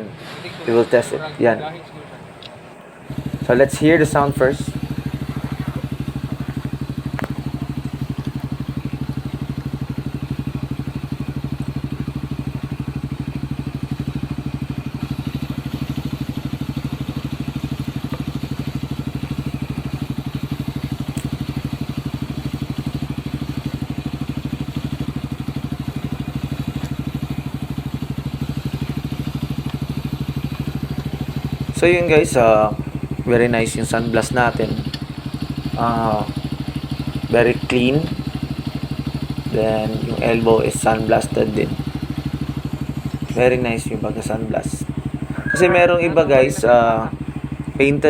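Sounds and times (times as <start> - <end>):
motorcycle engine idling: 1.8 - 48.0.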